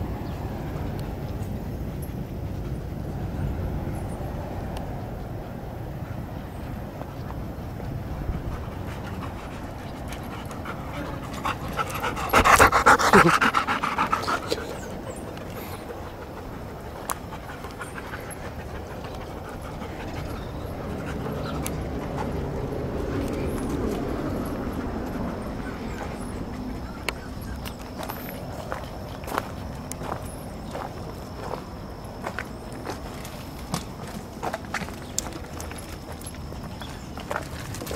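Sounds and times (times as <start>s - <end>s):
dogs panting: 0.3s - 37.9s.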